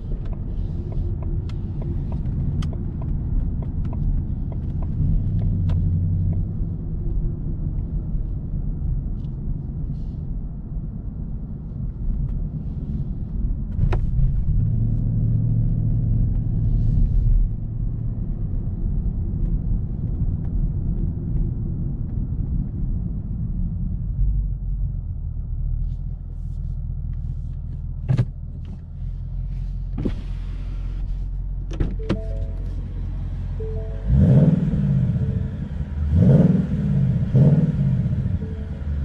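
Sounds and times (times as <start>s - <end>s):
engine rumbling and revving: 0.0s - 39.0s.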